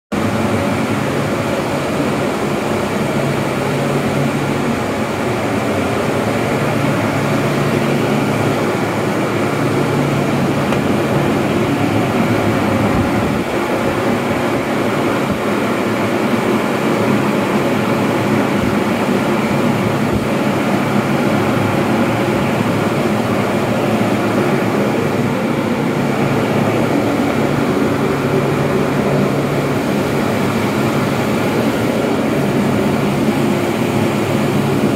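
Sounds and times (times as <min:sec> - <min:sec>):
heater fans blowing air: 0:00.1 - 0:34.9.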